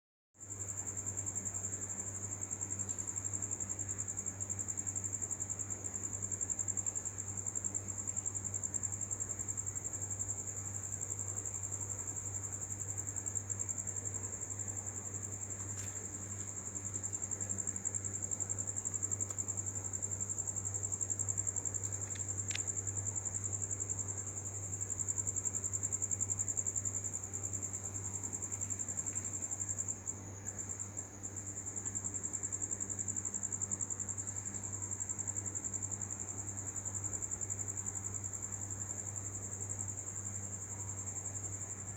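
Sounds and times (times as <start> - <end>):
crickets chirping: 0.4 - 41.9.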